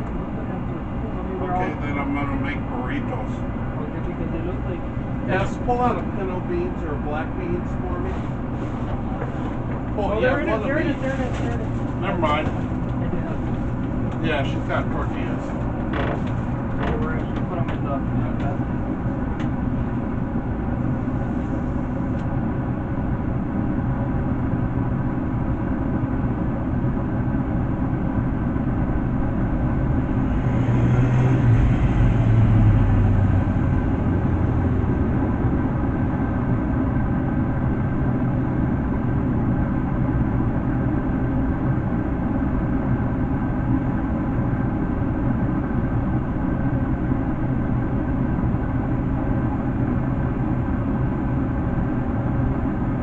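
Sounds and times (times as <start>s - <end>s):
machinery rumble and hum: 0.0s - 53.0s.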